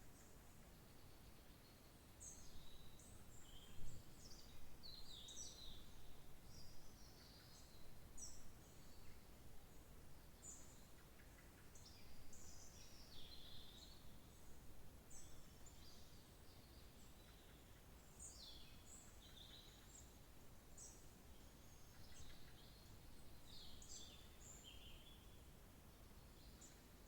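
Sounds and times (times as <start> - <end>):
songbirds chirping and trilling: 0.2 - 27.0.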